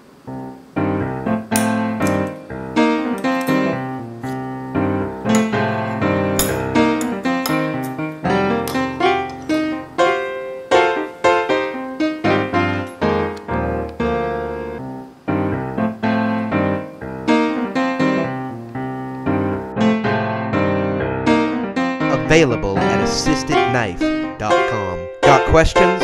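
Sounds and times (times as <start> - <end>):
piano melody with chords: 0.0 - 26.0.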